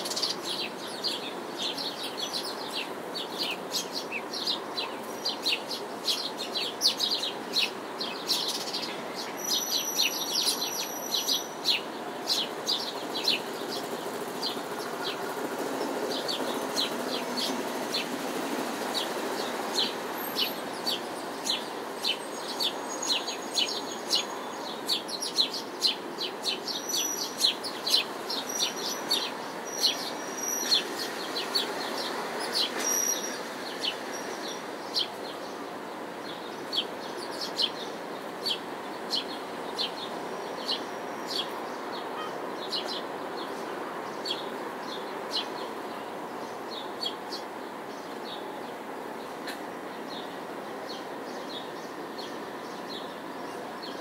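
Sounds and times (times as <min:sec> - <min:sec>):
distant city hum: 0:00.0 - 0:54.0
small birds chirping: 0:00.0 - 0:54.0.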